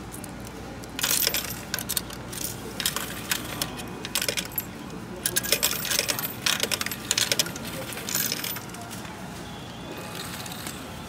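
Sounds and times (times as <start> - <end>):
coins clinking into machine: 0.1 - 8.9, 10.0 - 11.0.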